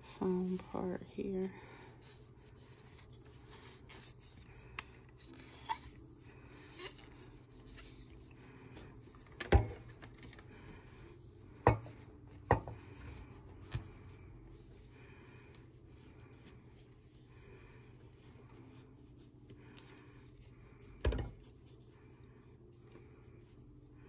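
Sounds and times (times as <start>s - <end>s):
cotton pad rubbing handset: 0.2s - 23.7s.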